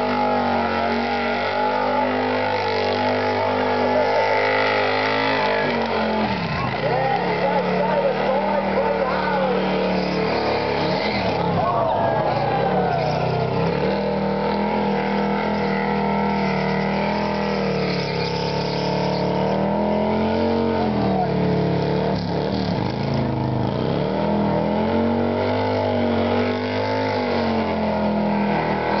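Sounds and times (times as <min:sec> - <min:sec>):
motorcycle engine revving high: 0:00.0 - 0:29.0.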